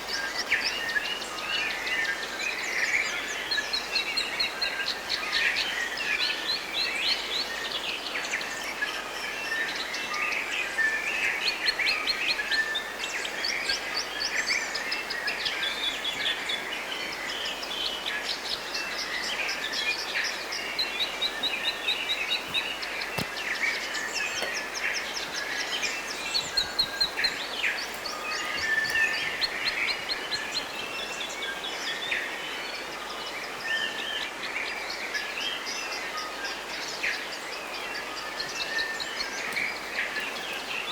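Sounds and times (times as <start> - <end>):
forest birds singing: 0.0 - 40.9.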